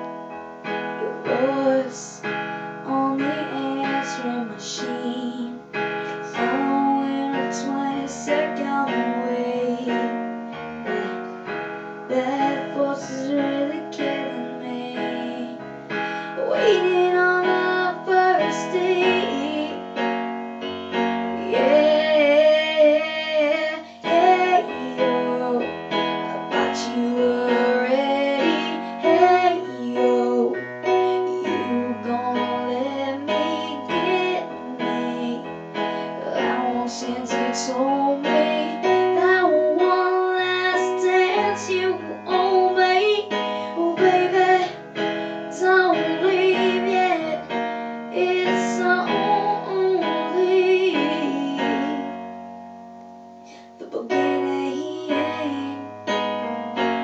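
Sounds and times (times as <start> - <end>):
electric piano chords: 0.0 - 57.0
person singing: 0.7 - 20.2, 20.9 - 52.3, 53.5 - 56.2.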